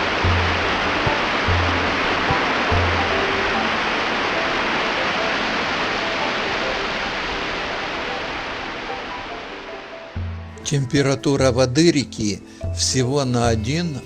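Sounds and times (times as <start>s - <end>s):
waterfall rushing water: 0.0s - 11.4s
faint music: 0.0s - 14.0s.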